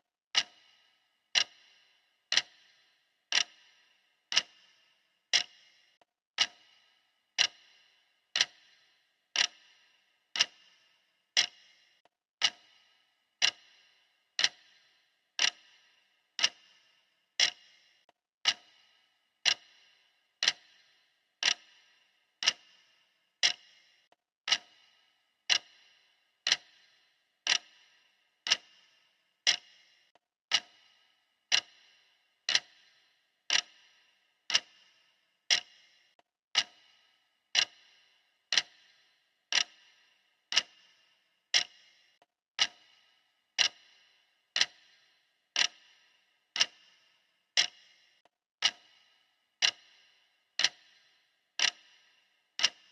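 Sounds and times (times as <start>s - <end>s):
clock ticking: 0.3s - 52.9s.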